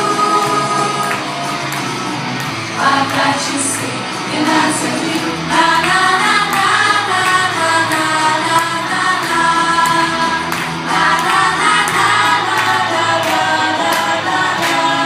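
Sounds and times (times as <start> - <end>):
group of voices singing: 0.0 - 1.7, 2.6 - 15.0.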